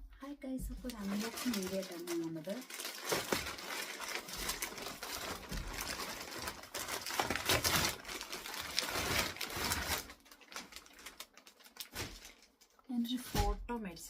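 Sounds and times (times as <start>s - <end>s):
packaging rustling and crinkling: 0.7s - 13.6s.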